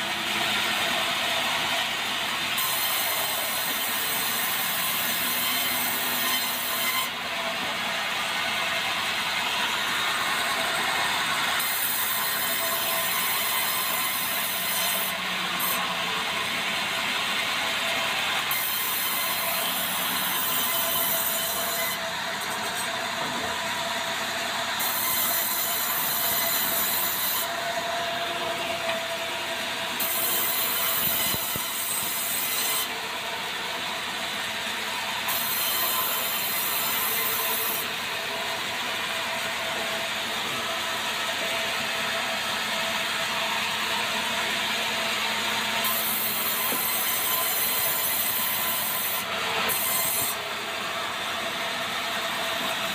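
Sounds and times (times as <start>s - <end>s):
sawmill cutting a log: 0.0s - 52.9s.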